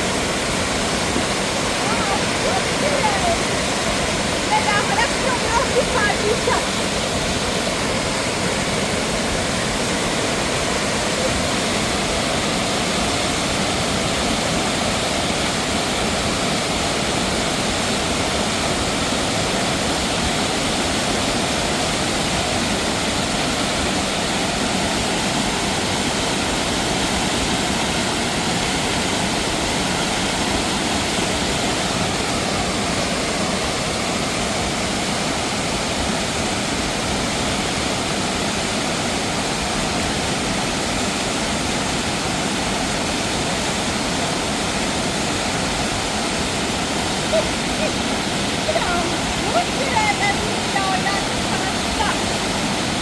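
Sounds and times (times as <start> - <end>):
rushing mountain water: 0.0 - 53.0.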